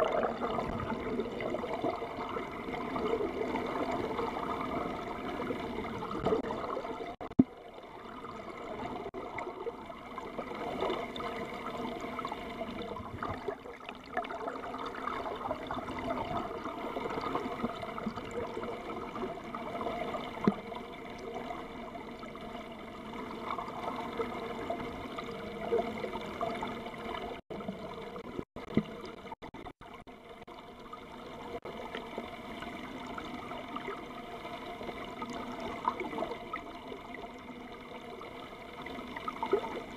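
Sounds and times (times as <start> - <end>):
water rushing and bubbling: 0.0 - 39.9.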